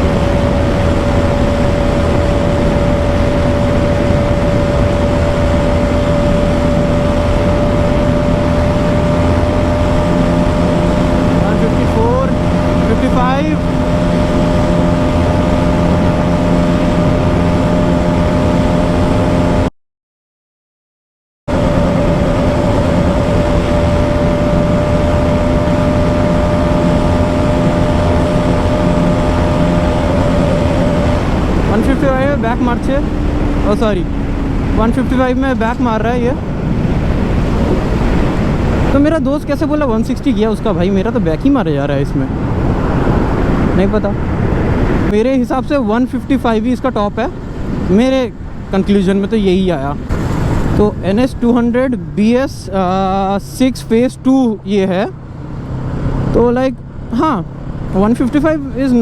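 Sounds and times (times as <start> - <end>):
motorcycle engine at high revs: 0.0 - 19.7, 21.5 - 59.0
wind rush on microphone: 0.0 - 19.7, 21.5 - 59.0.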